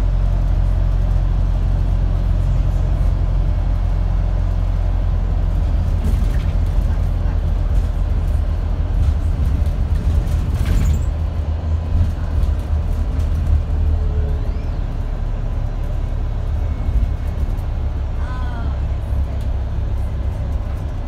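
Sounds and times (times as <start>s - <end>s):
bus engine drone: 0.0s - 21.0s
road and body noise: 0.2s - 21.0s.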